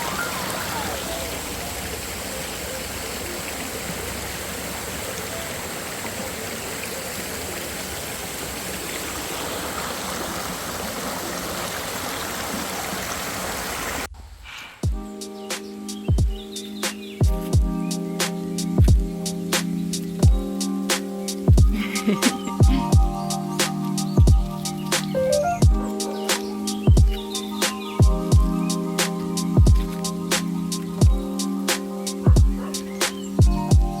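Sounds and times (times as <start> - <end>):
water rushing: 0.0 - 14.1, 18.1 - 34.0.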